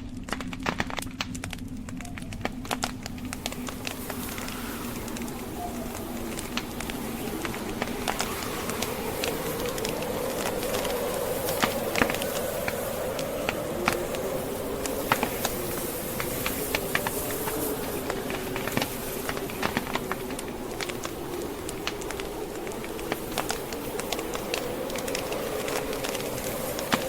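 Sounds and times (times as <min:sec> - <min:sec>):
blizzard wind moaning: 0:00.0 - 0:27.0
wood fire crackling and popping: 0:00.0 - 0:27.0.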